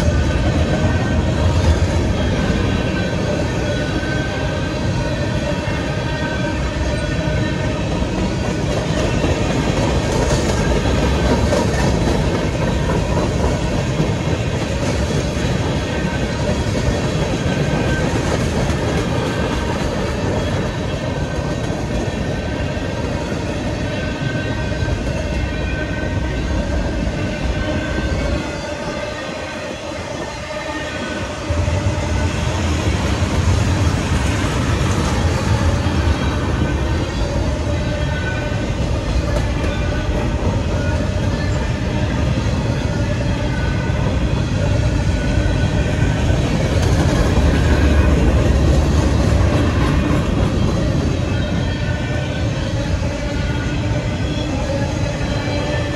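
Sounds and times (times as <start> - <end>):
freight train wheels rumbling on rails: 0.0 - 55.9.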